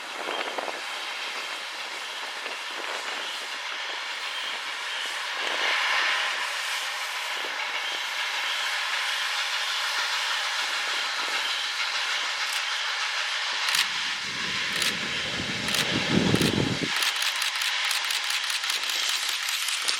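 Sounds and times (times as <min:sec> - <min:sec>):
rushing hiss of moving train: 0:00.0 - 0:19.4.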